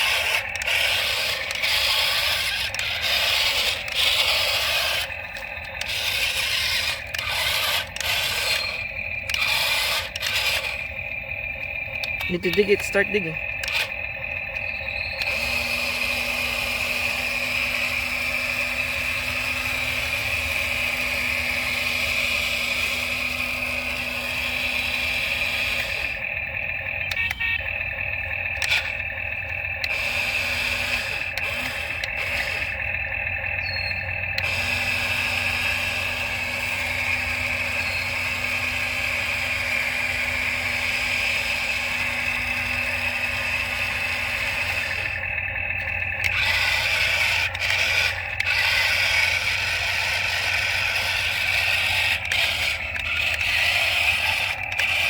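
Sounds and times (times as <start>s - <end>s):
toy excavator motors whirring: 0.0s - 55.0s.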